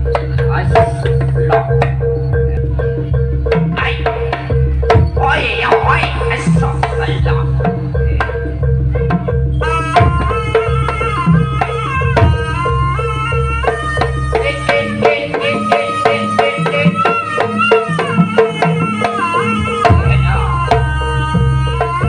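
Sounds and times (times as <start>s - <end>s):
drums in busy pattern: 0.0s - 22.0s.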